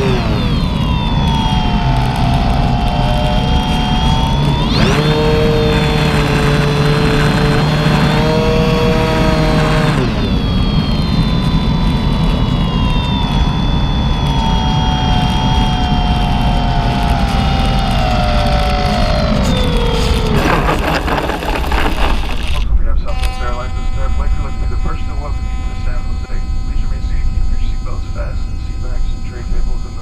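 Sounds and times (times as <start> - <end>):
wind noise: 0.0 - 25.8
model plane motor and propeller: 0.0 - 30.0.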